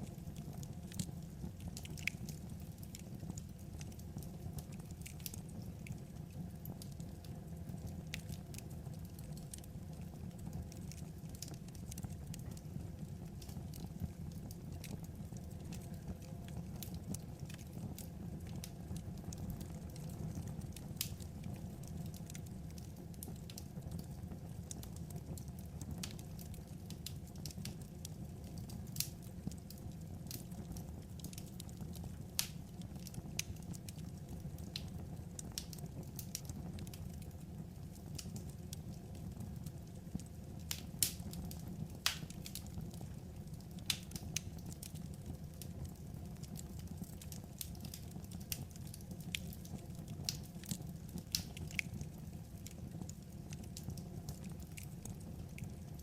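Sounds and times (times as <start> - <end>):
firewood crackling and popping: 0.0 - 56.0
low rumble of fire: 0.0 - 56.0.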